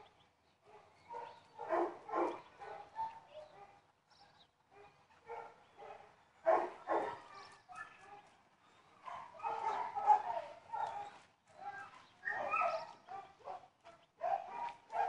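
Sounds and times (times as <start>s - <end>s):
dogs barking: 0.6s - 3.8s, 4.7s - 8.3s, 9.0s - 15.0s.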